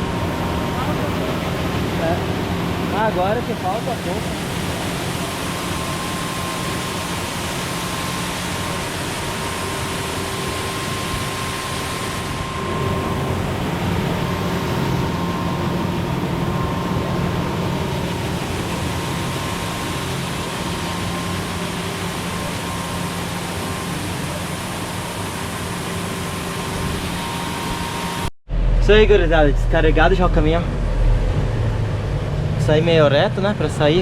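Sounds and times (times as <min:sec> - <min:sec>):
combine harvester machine hum: 0:00.0 - 0:34.0.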